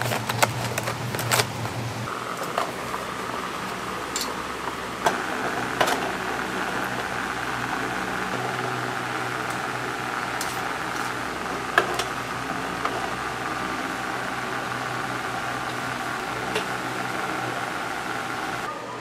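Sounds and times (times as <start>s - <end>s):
electric fan whirring: 0.0s - 19.0s.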